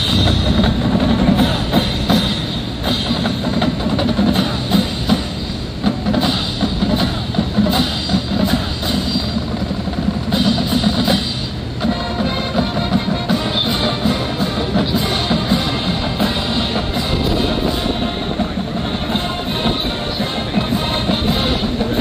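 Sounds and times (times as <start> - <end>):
marching drumline cadence: 0.0 - 22.0.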